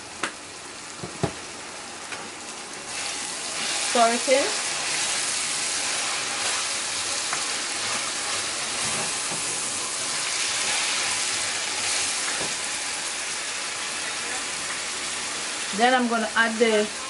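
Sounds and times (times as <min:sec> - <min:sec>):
vegetables sizzling in hot oil: 0:00.4 - 0:17.0.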